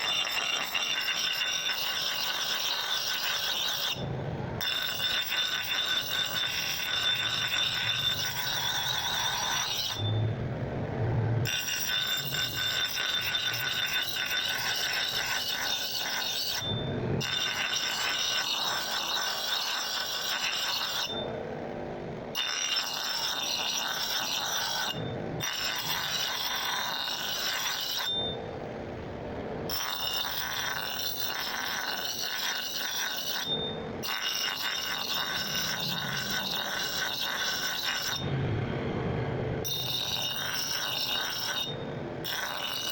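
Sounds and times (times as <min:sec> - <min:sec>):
metal scraping: 0:00.0 - 0:21.4, 0:29.4 - 0:42.9
grinder high whine: 0:00.0 - 0:42.9.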